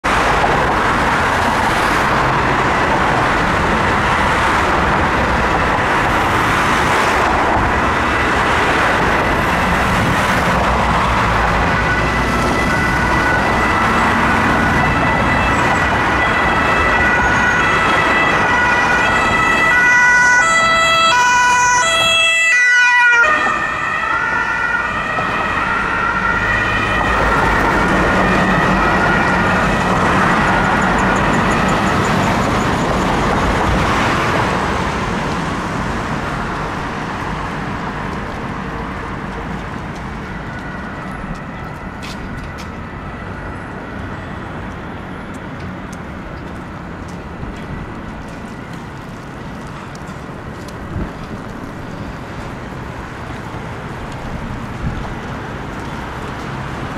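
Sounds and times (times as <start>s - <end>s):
dense city traffic: 0.0s - 56.9s
two-tone emergency siren: 6.3s - 56.9s.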